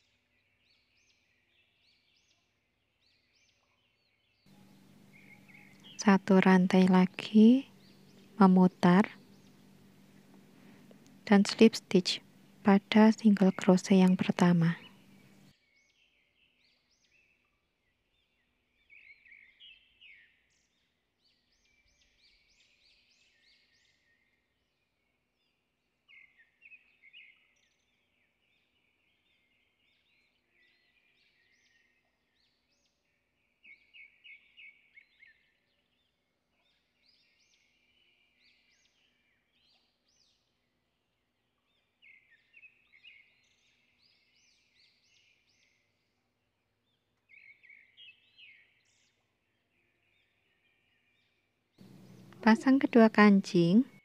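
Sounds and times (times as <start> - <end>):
faint bird chirping: 0.0 - 54.0.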